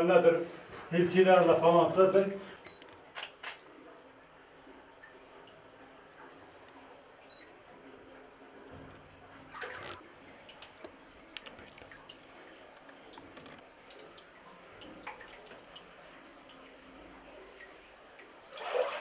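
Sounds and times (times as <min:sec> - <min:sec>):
water trickling faintly: 0:00.0 - 0:19.0
water drips and clicks: 0:02.5 - 0:18.5.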